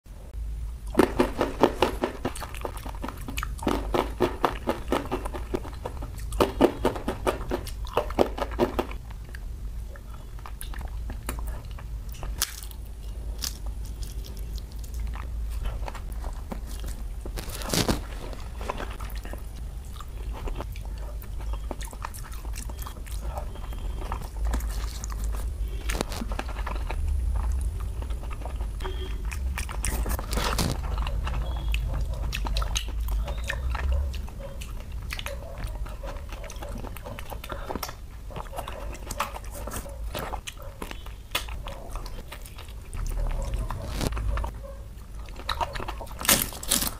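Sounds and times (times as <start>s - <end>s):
wet chewing: 0.8s - 46.9s
crunching fried chips: 0.9s - 9.4s, 10.3s - 46.9s.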